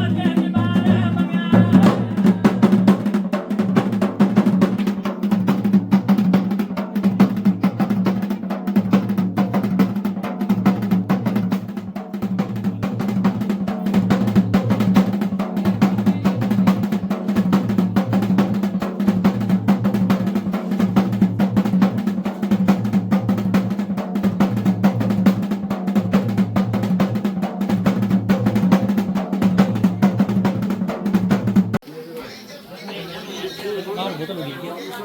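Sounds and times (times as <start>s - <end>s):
fast drumming: 0.0s - 31.9s.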